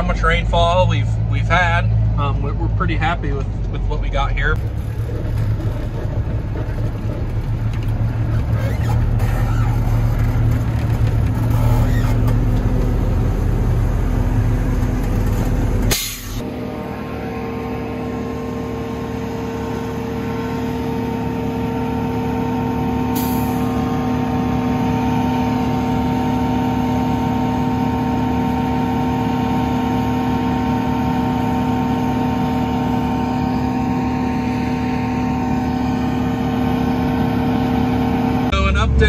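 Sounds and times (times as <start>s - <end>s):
forage chopper running: 0.0s - 39.0s.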